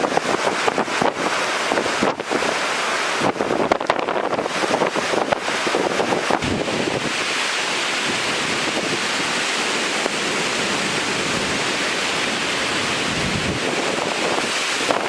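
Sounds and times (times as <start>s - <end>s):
storm wind and water rushing: 0.0s - 15.0s.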